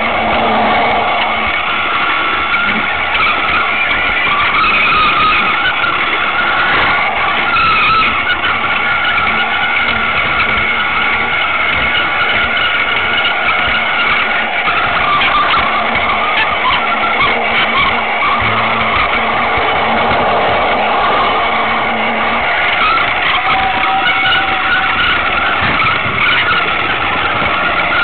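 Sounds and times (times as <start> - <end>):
toy train motor whining: 0.0 - 28.0
toy train rattling on track: 0.0 - 28.0.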